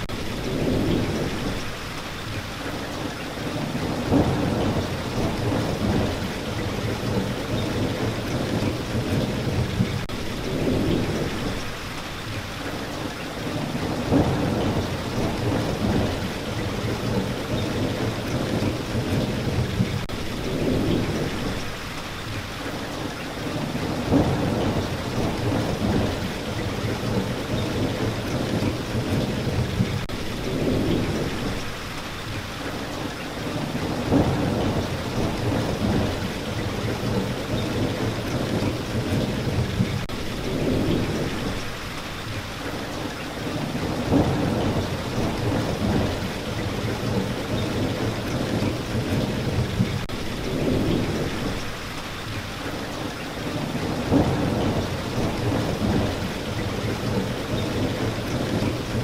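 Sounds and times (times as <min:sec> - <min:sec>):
thunder rumbling: 0:00.0 - 0:01.8, 0:03.4 - 0:11.8, 0:13.5 - 0:21.8, 0:23.5 - 0:31.8, 0:33.5 - 0:41.8, 0:43.4 - 0:51.9, 0:53.4 - 0:59.0
heavy rain falling: 0:00.0 - 0:59.0.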